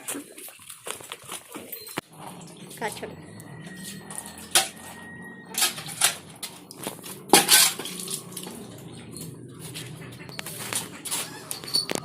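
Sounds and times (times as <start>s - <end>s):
metal objects clattering: 1.4s - 12.0s.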